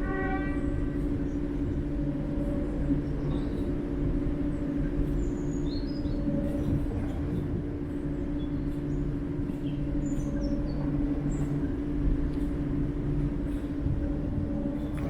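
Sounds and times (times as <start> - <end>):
diesel locomotive engine running: 0.0 - 15.0
birds chirping: 0.5 - 13.4.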